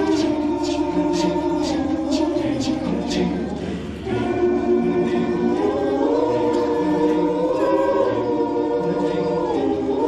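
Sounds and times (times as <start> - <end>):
chorus singing in close harmony: 0.0 - 10.0.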